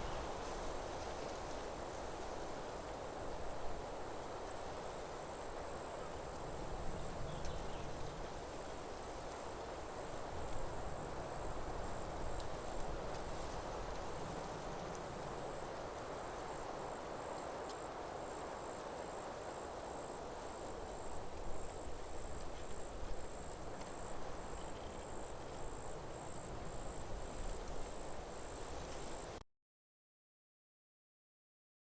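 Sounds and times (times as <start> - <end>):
background hiss: 0.0 - 29.4
crickets trilling: 0.0 - 29.4.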